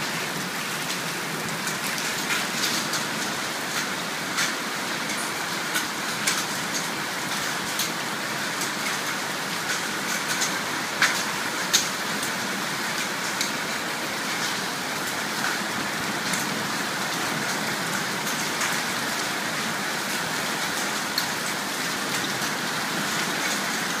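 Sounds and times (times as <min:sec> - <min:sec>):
rain hissing on metal roof: 0:00.0 - 0:24.0.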